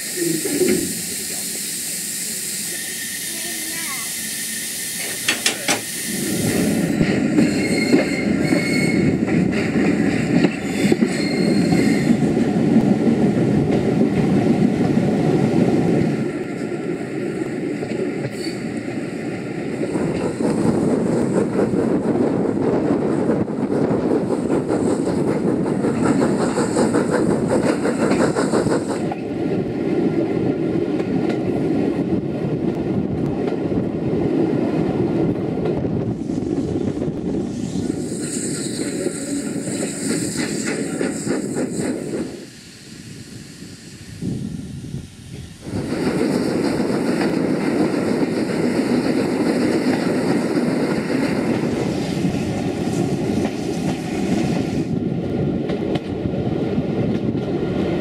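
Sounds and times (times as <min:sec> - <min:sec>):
steam train rumbling: 0:00.0 - 0:58.0.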